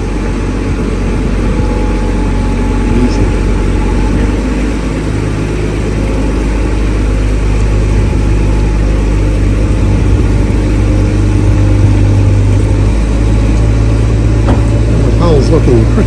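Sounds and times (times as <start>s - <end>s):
travel lift engine humming: 0.0s - 16.0s.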